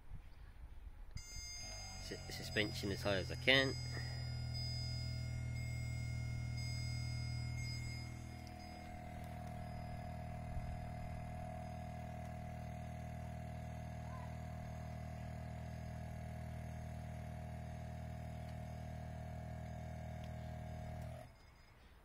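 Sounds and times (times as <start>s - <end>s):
air suspension compressor humming: 1.2s - 21.3s.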